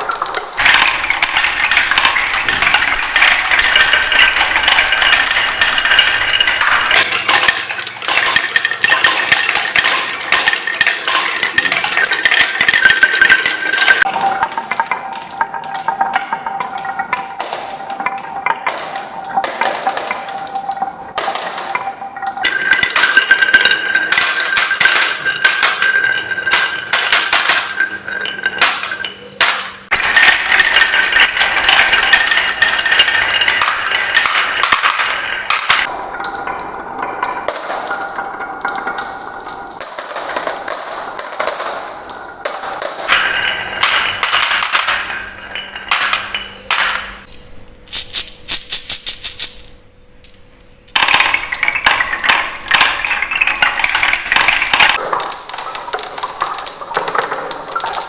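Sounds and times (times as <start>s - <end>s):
marbles clacking on wooden run: 0.0s - 58.0s.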